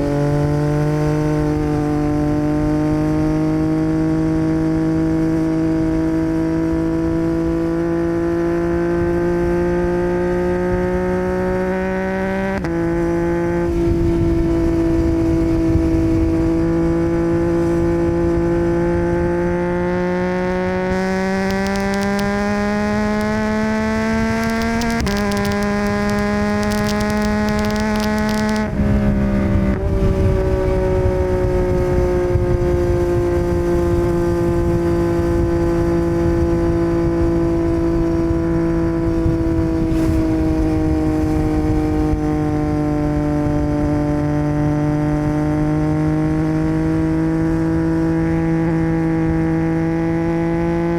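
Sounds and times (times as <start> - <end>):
wind rush: 0.0 - 50.6
motorcycle engine accelerating: 0.0 - 50.9.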